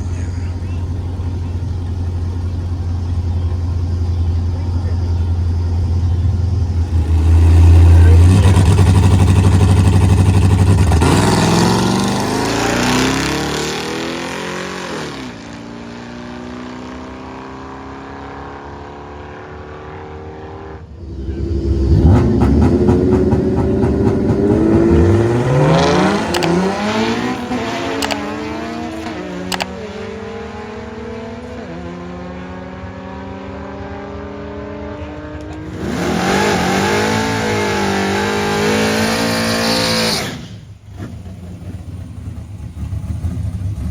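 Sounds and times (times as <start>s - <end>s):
drag racing car engines: 0.0s - 43.9s.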